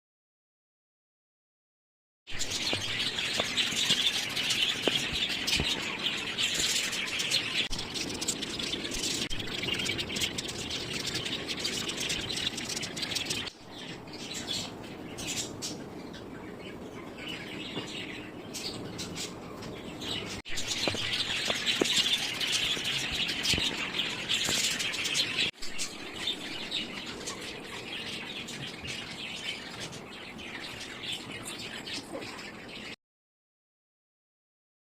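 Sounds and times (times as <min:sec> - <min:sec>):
small birds chirping: 0:02.3 - 0:33.0.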